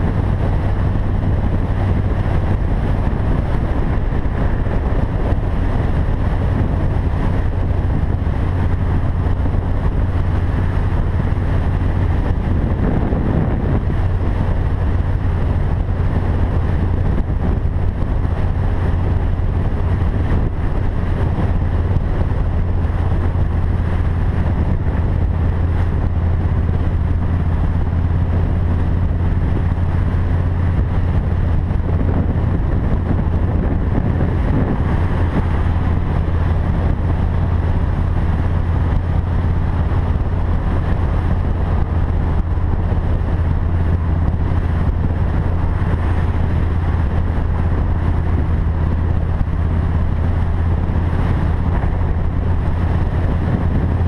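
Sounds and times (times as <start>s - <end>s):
motorcycle engine cruising: 0.0s - 54.0s
wind on microphone: 0.0s - 54.0s.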